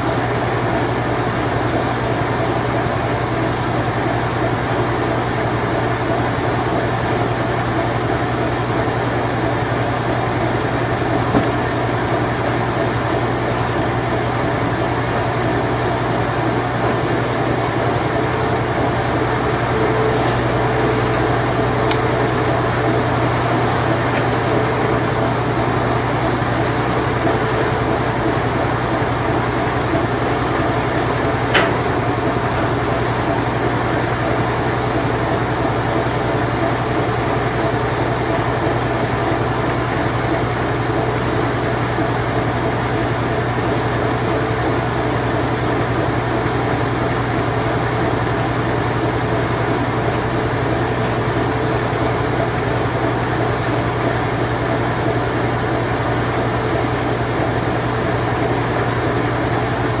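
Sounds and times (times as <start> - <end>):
washing machine spin cycle: 0.0 - 60.0.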